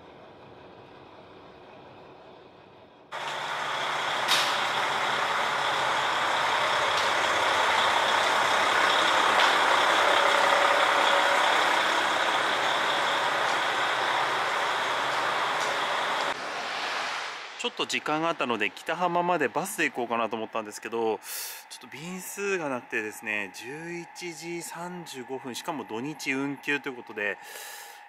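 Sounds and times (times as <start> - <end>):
diesel railcar engines idling: 0.0 - 16.4, 17.6 - 28.0.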